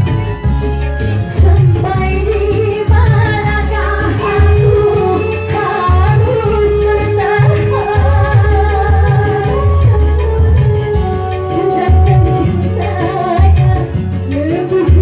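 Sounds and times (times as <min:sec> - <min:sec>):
electronic keyboard with beat: 0:00.0 - 0:15.0
woman singing into microphone: 0:01.1 - 0:15.0.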